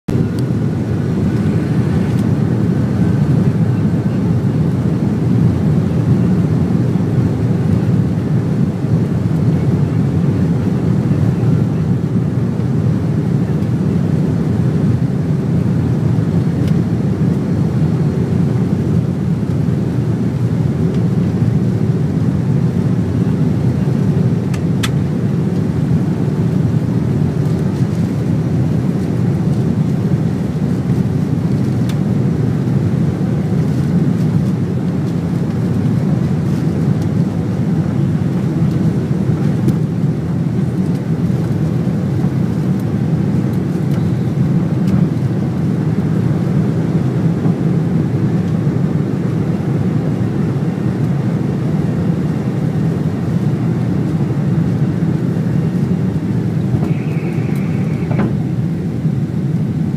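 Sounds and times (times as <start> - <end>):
jet engines rumbling in cabin: 0.1 - 59.9.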